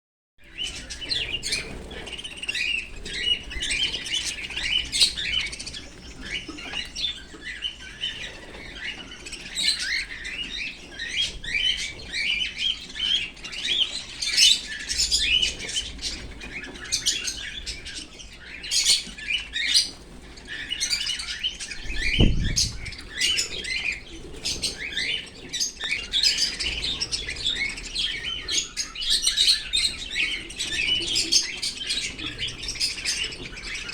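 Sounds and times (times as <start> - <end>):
birds chirping: 0.4 - 33.9.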